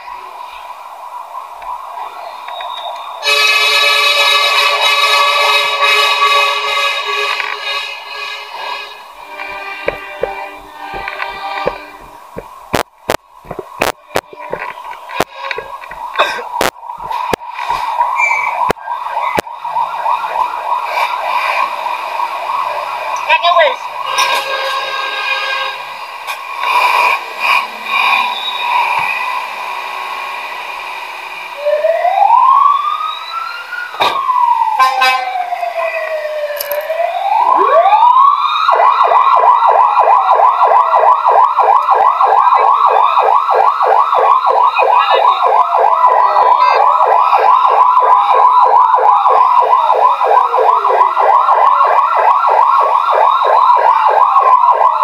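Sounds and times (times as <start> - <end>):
siren pulsing yelp: 0.0 - 24.7, 31.6 - 55.0
siren wailing: 0.0 - 30.8, 31.4 - 55.0.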